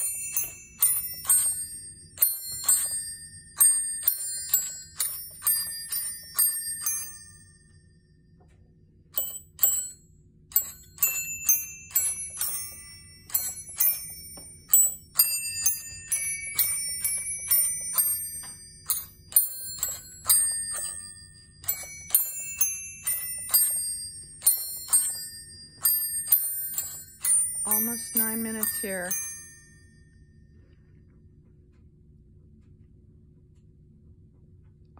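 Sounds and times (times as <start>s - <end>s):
bell chime toy playing a tune: 0.0s - 8.0s, 9.2s - 30.6s.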